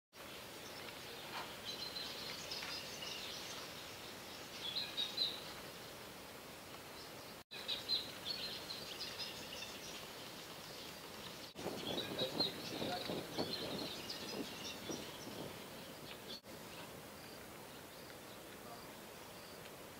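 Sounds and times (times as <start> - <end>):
steady outdoor hiss: 0.1 - 19.9
small birds chirping: 0.2 - 19.9.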